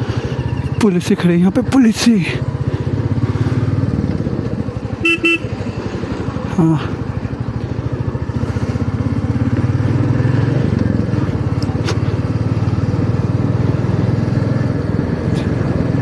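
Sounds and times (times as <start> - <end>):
motorcycle engine pulsing exhaust: 0.0 - 16.0.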